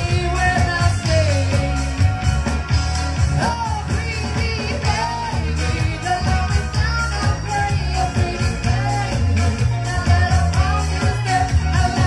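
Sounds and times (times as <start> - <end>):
live band playing pop-rock: 0.0 - 12.0.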